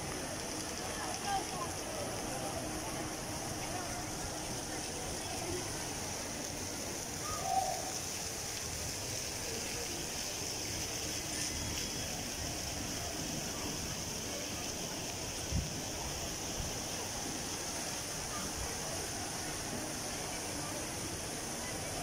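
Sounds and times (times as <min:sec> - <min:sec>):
faint distant voices: 0:00.0 - 0:22.0
fountain splashing: 0:00.0 - 0:22.0.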